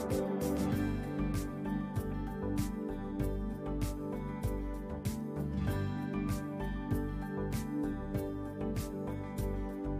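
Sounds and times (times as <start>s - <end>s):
instrumental music with plucked guitar: 0.0s - 9.9s.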